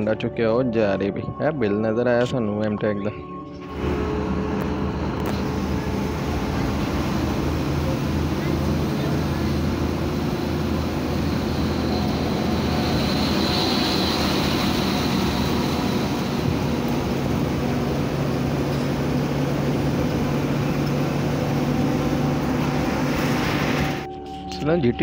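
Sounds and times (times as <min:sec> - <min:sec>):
bus engine humming: 0:03.6 - 0:24.1
faint high whine: 0:03.6 - 0:24.1
road noise: 0:03.6 - 0:24.1.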